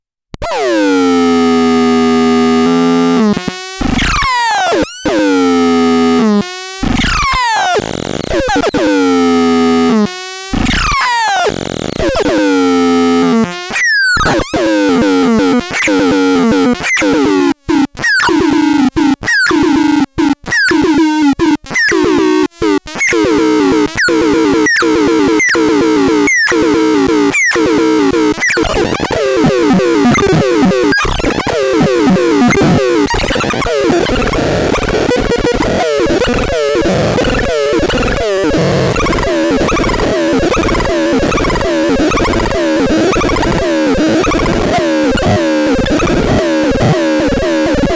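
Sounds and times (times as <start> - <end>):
synthesizer buzzy tones: 0.4 - 47.9.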